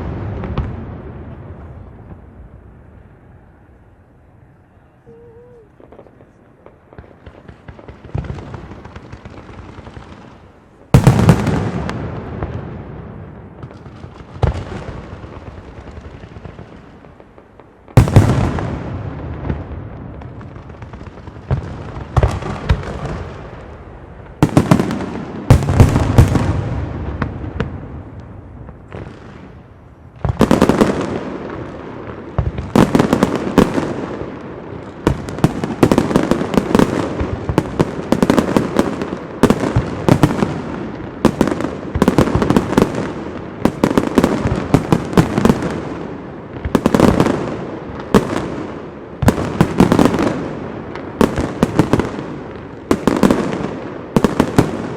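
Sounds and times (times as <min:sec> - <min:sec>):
fireworks bursting with bangs: 0:00.0 - 0:02.7, 0:05.1 - 0:54.9
fireworks crackling: 0:00.0 - 0:03.7, 0:05.0 - 0:54.9.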